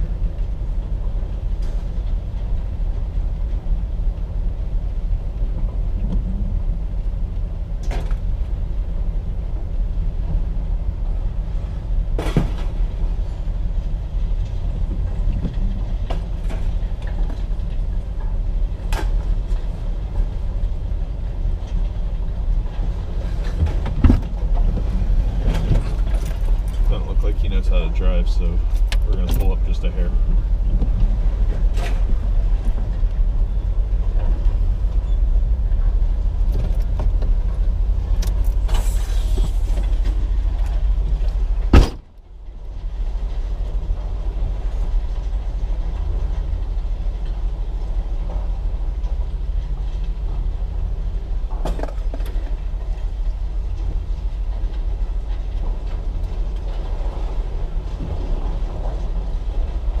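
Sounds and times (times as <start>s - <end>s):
truck engine rumbling: 0.0s - 60.0s.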